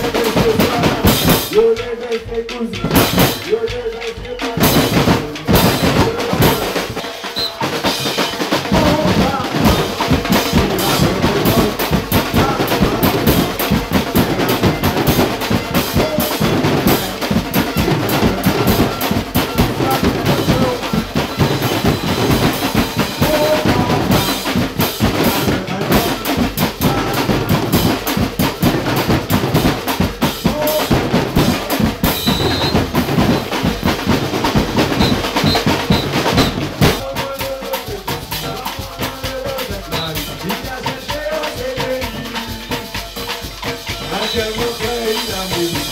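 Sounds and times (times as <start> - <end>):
percussion band drumming: 0.0 - 45.9.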